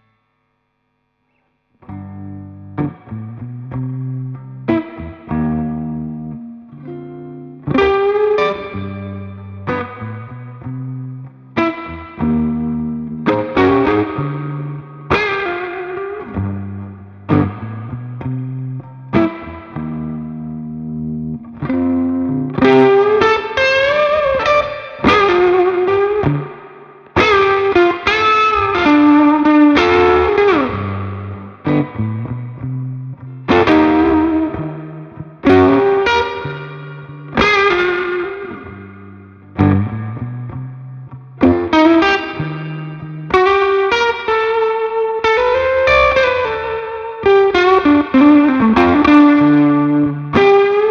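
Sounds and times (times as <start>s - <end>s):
electric guitar chords and notes: 1.8s - 50.9s.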